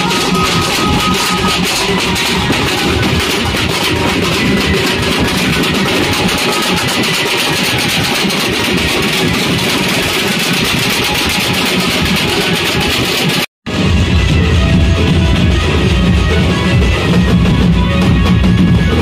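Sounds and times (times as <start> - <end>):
drum band beating fast rhythm: 0.0 - 19.0.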